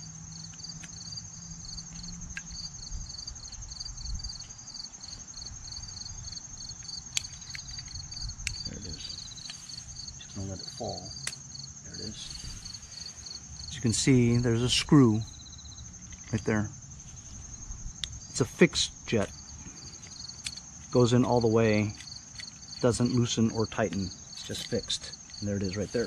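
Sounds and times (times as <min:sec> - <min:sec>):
insect high trill: 0:00.0 - 0:26.0
rapid pulsed insect chirping: 0:00.0 - 0:26.0.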